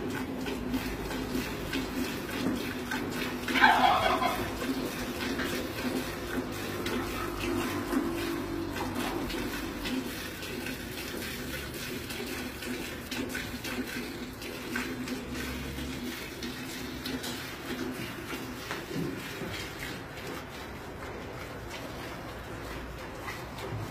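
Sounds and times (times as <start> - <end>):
milk squirting into metal pail: 0.0 - 23.9.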